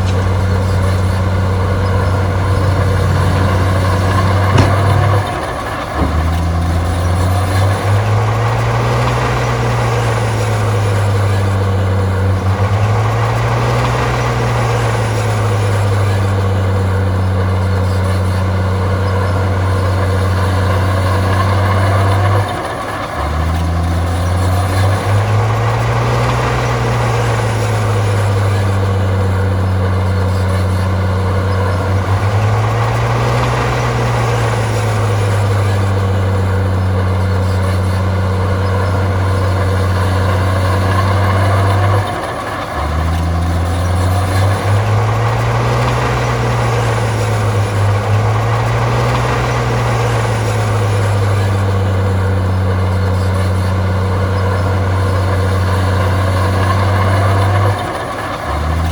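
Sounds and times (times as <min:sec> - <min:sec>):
heavy diesel engine under load: 0:00.0 - 0:58.9.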